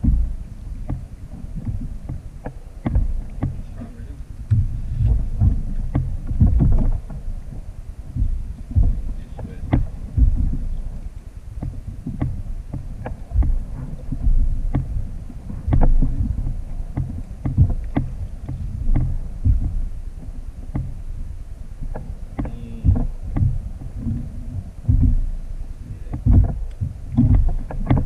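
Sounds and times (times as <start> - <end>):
light knocks and taps: 0.0 - 7.3, 8.1 - 10.7, 11.6 - 15.0, 15.7 - 21.0, 21.9 - 24.2, 26.1 - 28.0
water against hull: 0.0 - 28.0
wind on microphone: 0.0 - 28.0.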